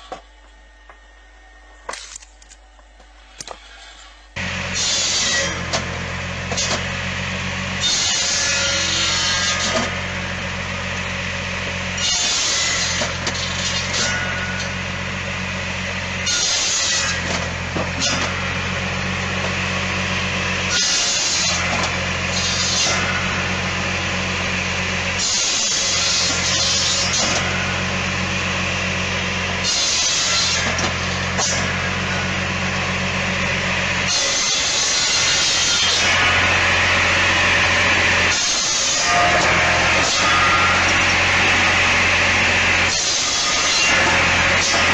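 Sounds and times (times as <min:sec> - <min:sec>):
machine humming: 0:00.0 - 0:44.9.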